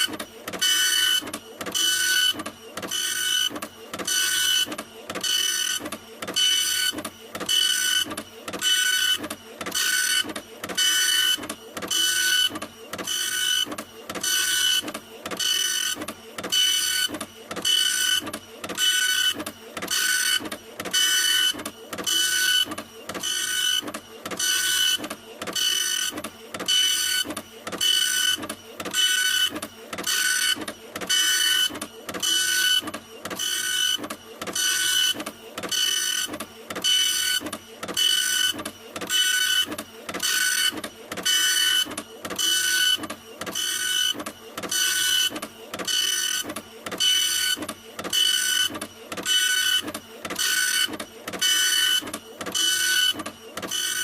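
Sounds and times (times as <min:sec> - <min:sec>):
printer whirring: 0:00.0 - 0:54.0.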